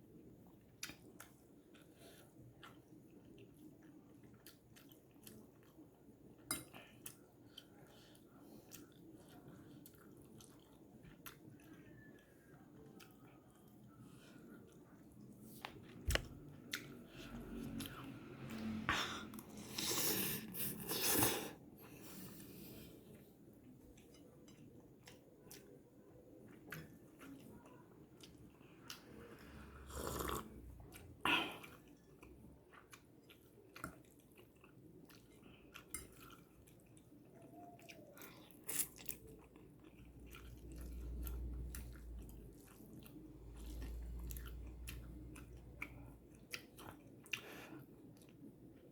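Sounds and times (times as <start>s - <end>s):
person chewing noodles: 0.2s - 48.9s.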